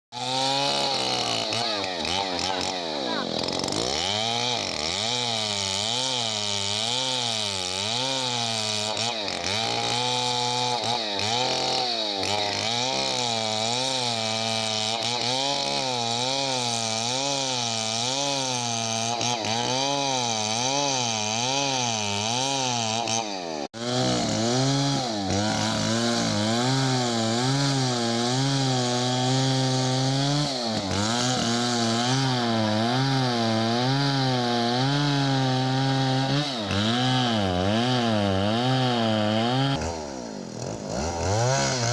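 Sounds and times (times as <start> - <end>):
chainsaw cutting wood: 0.1 - 41.9.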